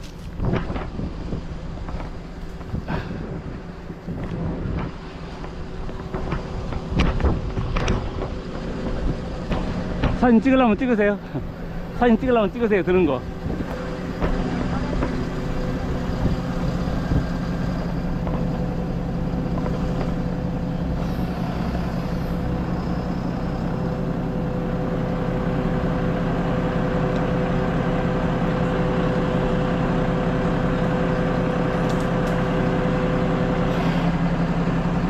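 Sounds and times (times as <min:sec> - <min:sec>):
crane engine running under load: 0:00.0 - 0:35.0.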